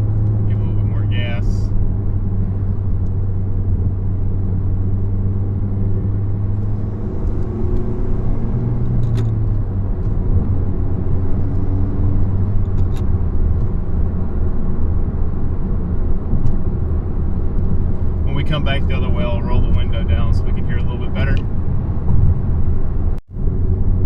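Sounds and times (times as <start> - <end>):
car engine drone: 0.0 - 24.0.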